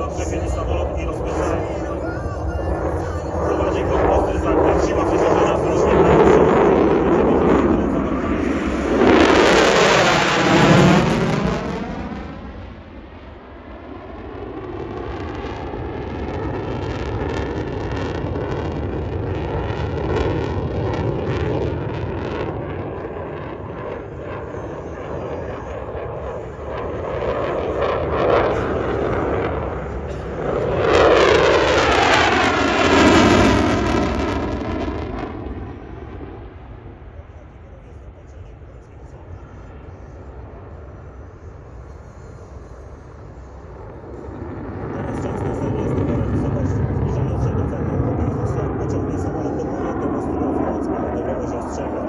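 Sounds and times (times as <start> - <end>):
aircraft engine rumble: 0.0 - 52.0.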